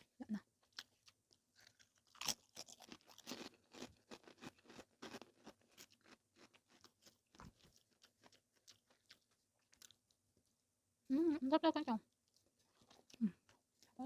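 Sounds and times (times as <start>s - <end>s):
crunchy chewing: 0.6s - 10.6s, 12.1s - 14.0s.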